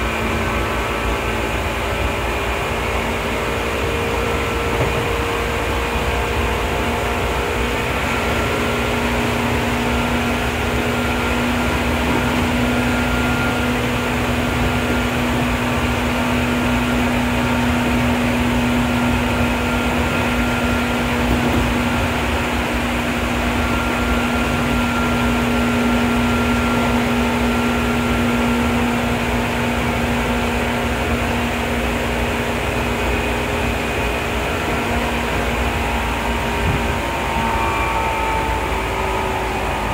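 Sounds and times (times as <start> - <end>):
electric train hum: 0.0 - 39.9
train wheels rumbling on rail: 0.0 - 39.9.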